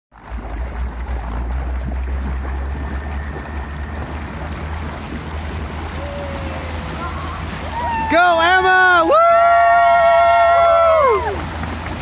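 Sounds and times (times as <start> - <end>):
motorboat engine droning: 0.1 - 12.0
water rushing and splashing: 0.1 - 12.0.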